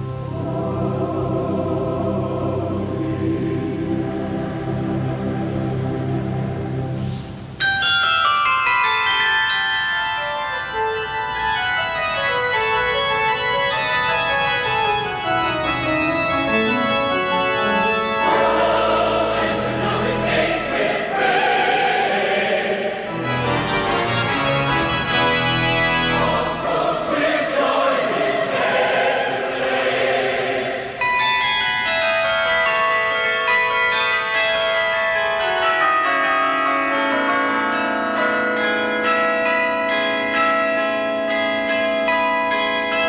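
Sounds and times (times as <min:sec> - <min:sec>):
carillon bells playing: 0:07.6 - 0:43.0.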